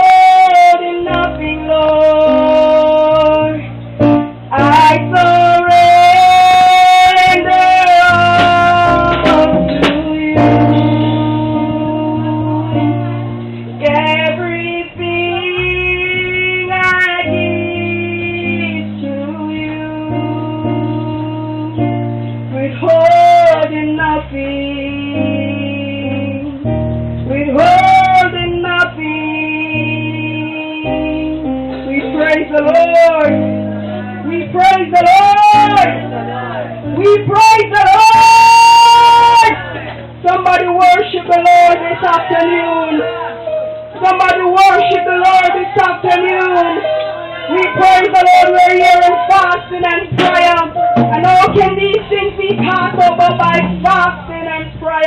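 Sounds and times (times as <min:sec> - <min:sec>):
guitar accompaniment: 0:00.0 - 0:55.0
low bass notes: 0:00.0 - 0:55.0
woman singing with vibrato: 0:00.0 - 0:55.0.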